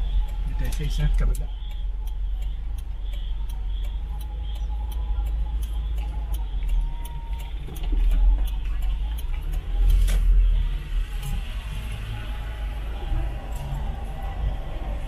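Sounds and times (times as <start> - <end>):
car engine and road rumble: 0.0 - 15.0
light regular ticking: 0.0 - 15.0.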